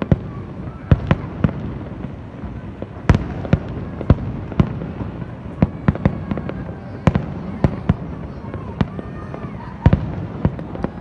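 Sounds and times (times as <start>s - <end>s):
fireworks sharp bangs: 0.0s - 11.0s
rumble of explosions: 0.0s - 11.0s.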